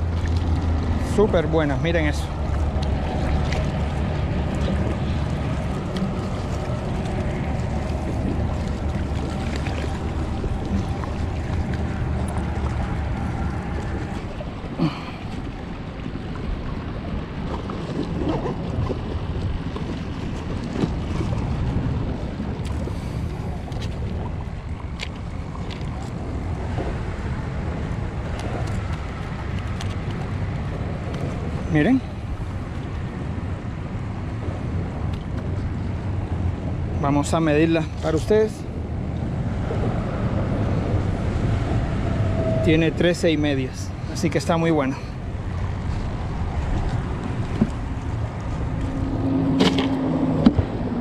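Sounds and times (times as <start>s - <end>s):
low hum: 0.0s - 37.1s, 44.9s - 51.0s
low outdoor rumble: 0.0s - 51.0s
wind buffeting microphone: 0.0s - 51.0s.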